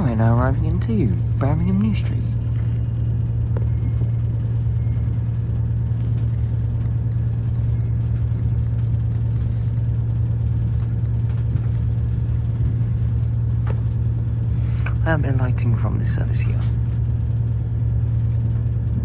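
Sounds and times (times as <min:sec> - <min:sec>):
train interior low hum: 0:00.0 - 0:19.0.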